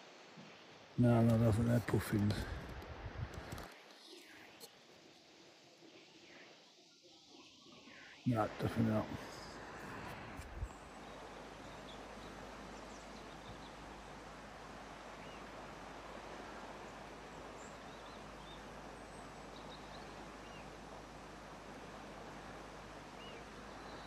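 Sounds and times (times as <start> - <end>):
outdoor background rush: 0.0 - 24.0.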